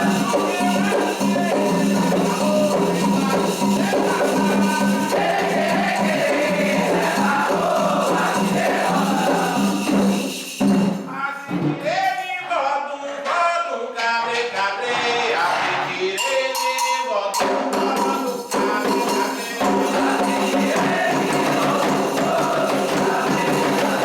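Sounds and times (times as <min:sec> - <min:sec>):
hand percussion: 0:00.0 - 0:12.0, 0:15.4 - 0:24.0
voices singing: 0:00.0 - 0:24.0.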